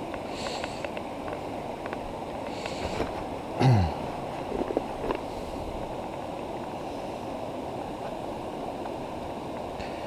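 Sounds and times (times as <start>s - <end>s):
river water running over rocks: 0.0s - 10.0s.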